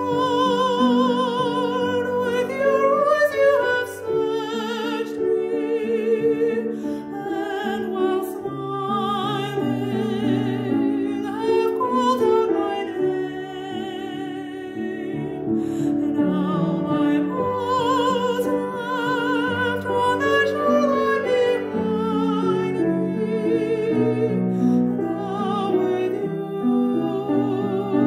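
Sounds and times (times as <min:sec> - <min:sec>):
person singing a hymn: 0:00.0 - 0:28.0.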